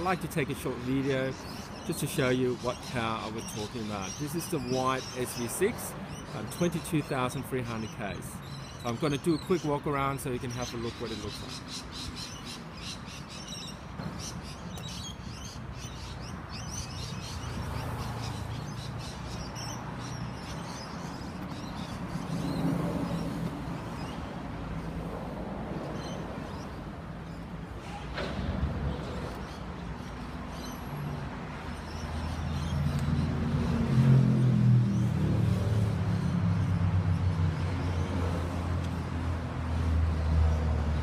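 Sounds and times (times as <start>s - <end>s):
birds chirping: 0.0s - 28.2s, 28.8s - 41.0s.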